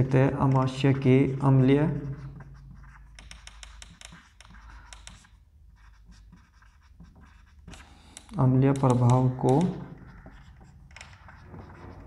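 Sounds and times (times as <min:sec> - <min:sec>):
marker scratching on whiteboard: 0:00.0 - 0:12.0.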